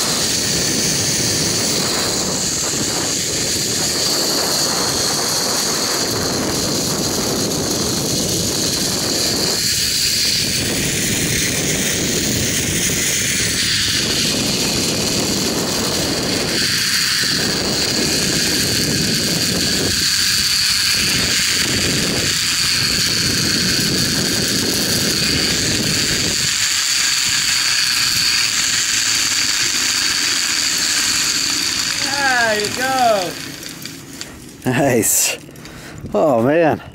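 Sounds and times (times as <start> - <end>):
zipline pulleys whining on cable: 0.0 - 35.7
wind rush on microphone: 0.0 - 36.9.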